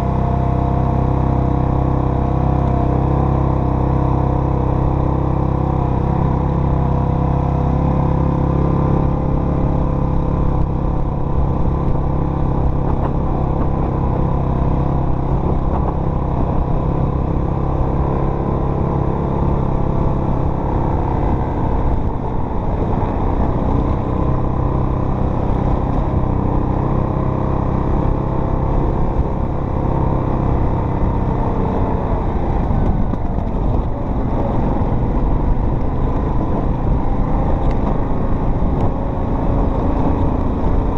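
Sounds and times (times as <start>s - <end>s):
off-road vehicle engine running: 0.0s - 40.9s.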